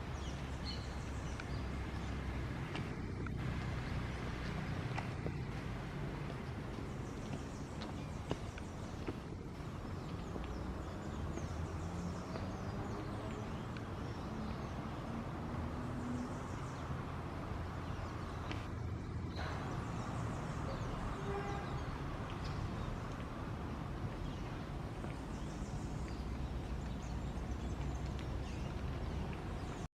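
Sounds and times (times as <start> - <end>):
low outdoor rumble: 0.0 - 29.9.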